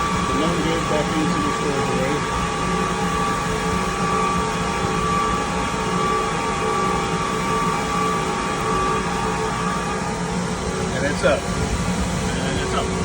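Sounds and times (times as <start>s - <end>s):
cooling fans rushing air: 0.0s - 13.0s
steady whining tones: 0.0s - 13.0s.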